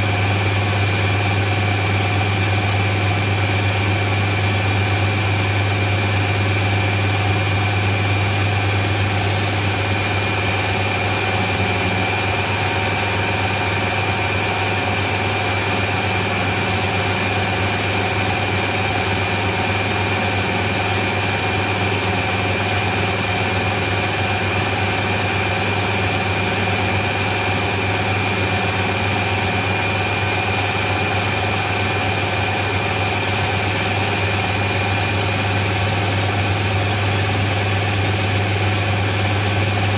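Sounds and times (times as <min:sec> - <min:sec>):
metal lathe hum and whine: 0:00.0 - 0:39.9.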